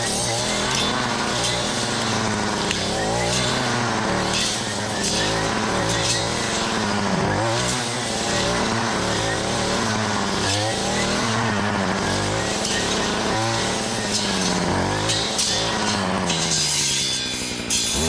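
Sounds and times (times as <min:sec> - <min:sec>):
small gas engine revving: 0:00.0 - 0:18.0.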